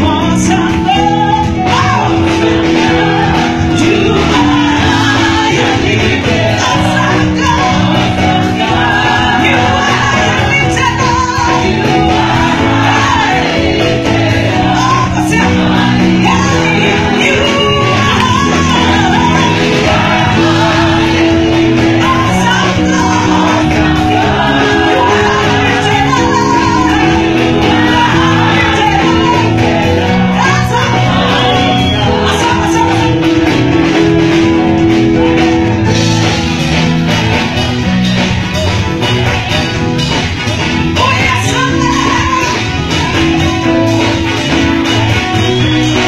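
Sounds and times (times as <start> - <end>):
gospel voices singing with band: 0.0 - 46.0.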